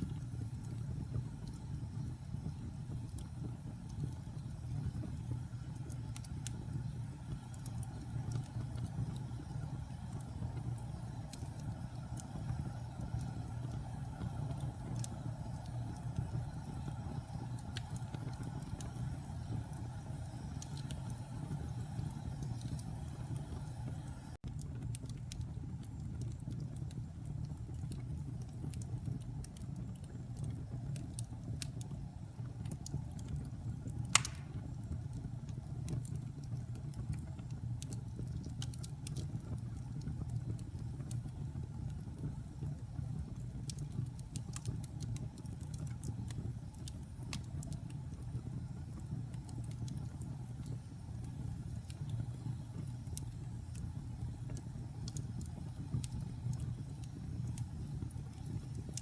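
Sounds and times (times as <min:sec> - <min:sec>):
fire crackling: 0:00.0 - 0:59.0
fire flames rumbling: 0:00.0 - 0:59.0
fire popping: 0:00.0 - 0:59.0.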